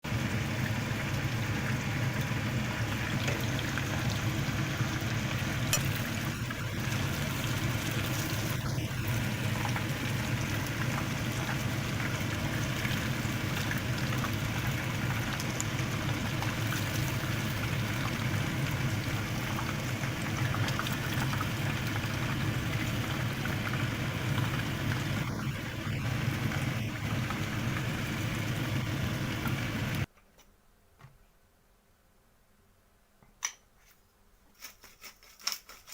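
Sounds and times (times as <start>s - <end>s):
chicken deep-frying in oil: 0.0s - 30.1s.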